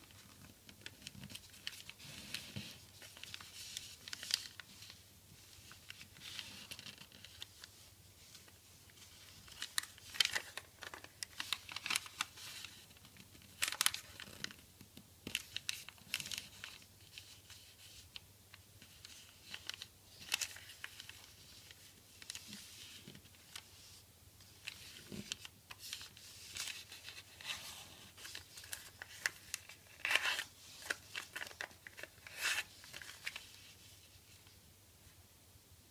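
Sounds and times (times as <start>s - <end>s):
paper being folded and creased: 0.0s - 14.6s, 15.3s - 34.6s.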